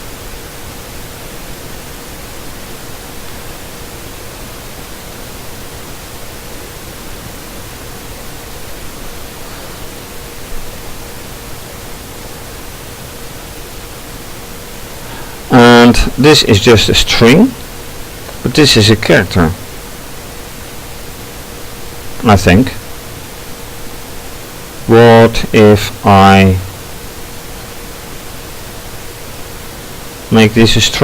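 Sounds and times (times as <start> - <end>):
background hiss: 0.0 - 31.0.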